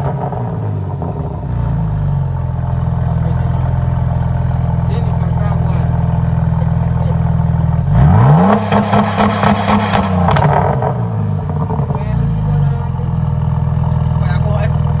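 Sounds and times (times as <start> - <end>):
car exhaust idling and revving: 0.0 - 15.0.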